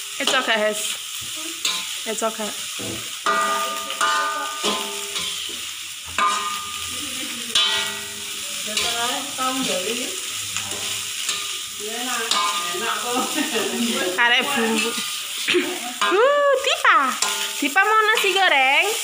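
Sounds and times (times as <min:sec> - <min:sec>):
rice sizzling in a wok: 0:00.0 - 0:19.0
metal spatula scraping a wok: 0:00.2 - 0:16.2, 0:17.1 - 0:19.0.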